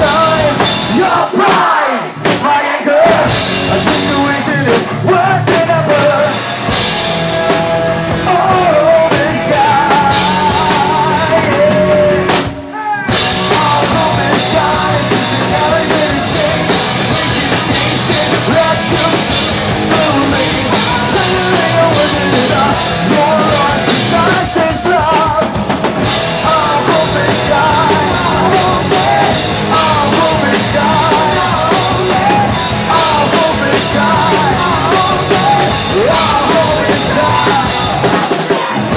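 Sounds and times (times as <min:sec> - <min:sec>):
rock band playing: 0:00.0 - 0:38.9
melodic guitar line: 0:03.2 - 0:38.9.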